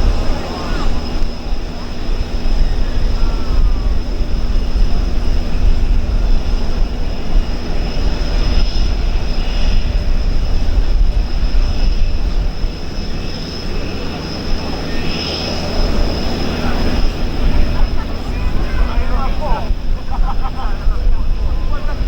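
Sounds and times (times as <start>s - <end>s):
high-pitched jet whine: 0.0s - 22.0s
jet engine rumble: 0.0s - 22.0s.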